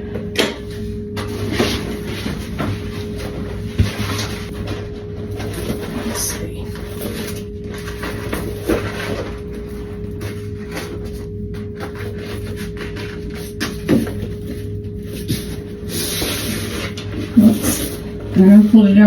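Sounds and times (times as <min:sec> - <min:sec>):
steady machine hum: 0:00.0 - 0:19.0
wallpaper rustling and knocks: 0:00.2 - 0:18.8.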